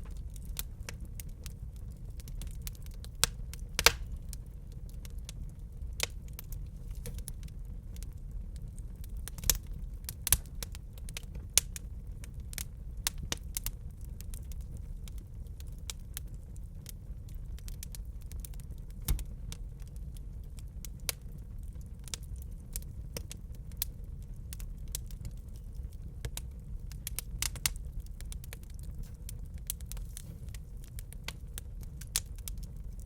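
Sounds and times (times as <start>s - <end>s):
low rumble of burning: 0.0s - 33.0s
wood fire crackling: 0.0s - 33.0s.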